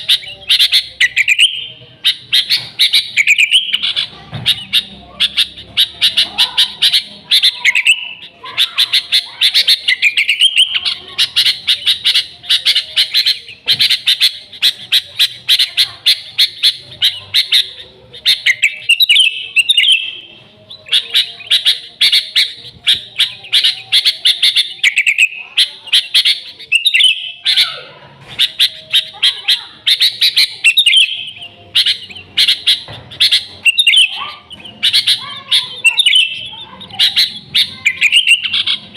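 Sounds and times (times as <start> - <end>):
bird singing with bright chirps: 0.0 - 38.9.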